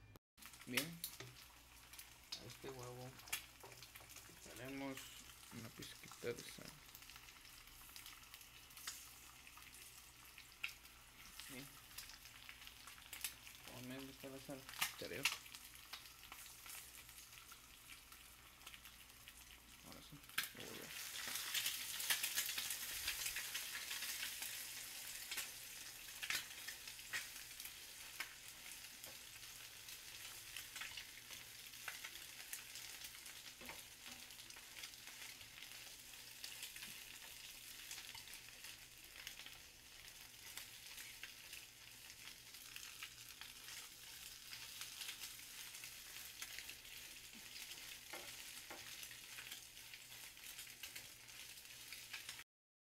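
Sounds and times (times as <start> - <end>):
eggs sizzling in hot oil: 0.4 - 52.4.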